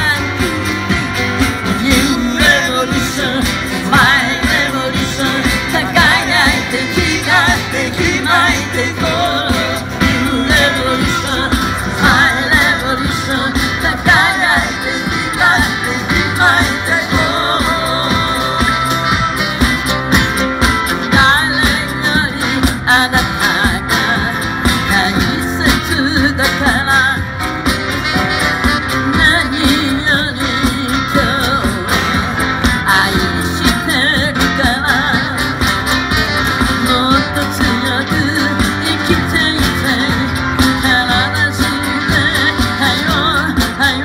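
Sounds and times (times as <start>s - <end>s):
man singing lead: 0.0s - 19.9s, 20.9s - 27.5s, 29.0s - 44.0s
live band playing: 0.0s - 44.0s.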